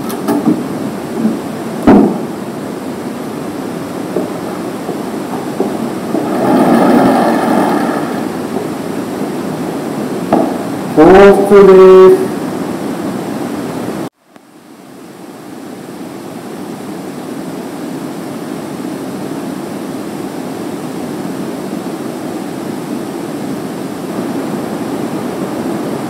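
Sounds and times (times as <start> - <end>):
room tone hiss: 0.0 - 26.0.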